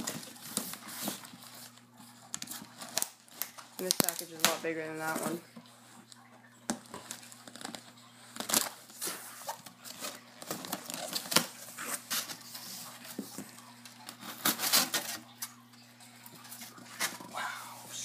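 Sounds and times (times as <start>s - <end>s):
cardboard rustling: 0.0s - 5.4s, 6.1s - 15.6s, 16.3s - 17.3s.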